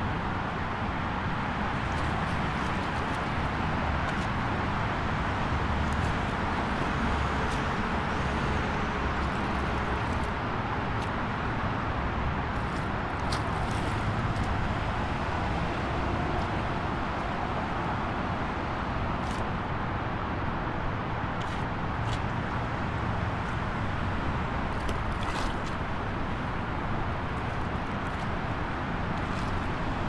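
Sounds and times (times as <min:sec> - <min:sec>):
highway traffic noise: 0:00.0 - 0:30.0.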